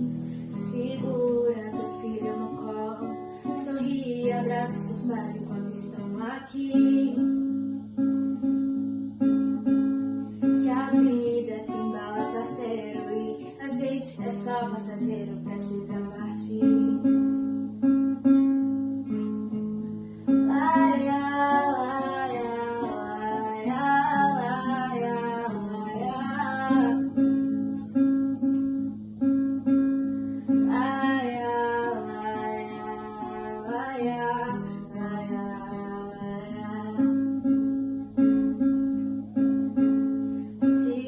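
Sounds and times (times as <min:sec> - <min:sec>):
strummed acoustic guitar: 0:00.0 - 0:41.0.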